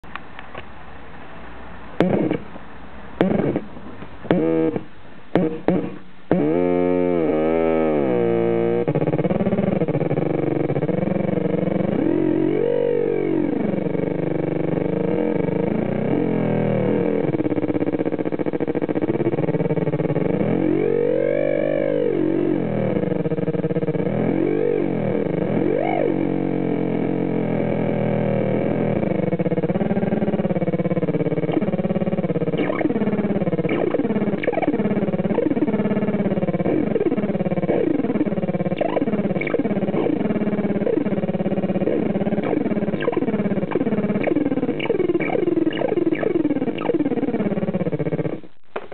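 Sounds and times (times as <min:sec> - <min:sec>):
chirping electronic pitch sweeps: 0:04.3 - 0:48.5
electronic drone with swooping pitch: 0:04.3 - 0:48.5.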